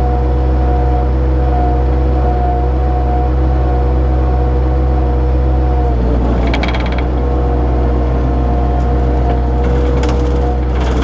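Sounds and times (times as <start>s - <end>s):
hydraulic whine: 0.0s - 11.0s
skid steer engine running hard: 0.0s - 11.0s.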